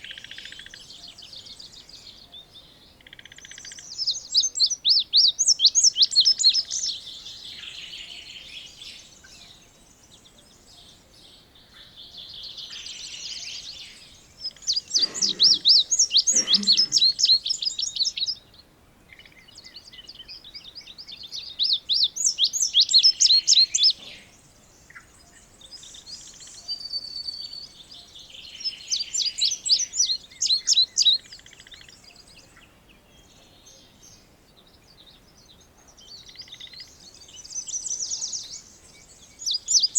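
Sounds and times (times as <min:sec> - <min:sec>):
bird singing high chirps: 0:00.0 - 0:39.9
faint bird chirping: 0:00.0 - 0:39.9.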